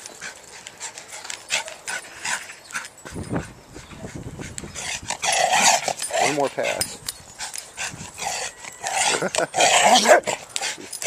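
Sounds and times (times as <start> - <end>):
dog breathing and snuffling: 0.0 - 11.0.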